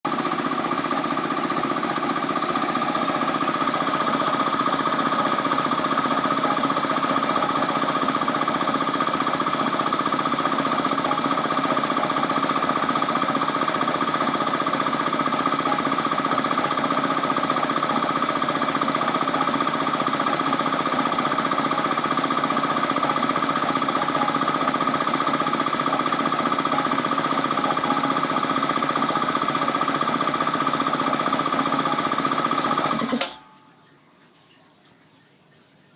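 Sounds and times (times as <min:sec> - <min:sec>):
air compressor chugging: 0:00.1 - 0:33.4.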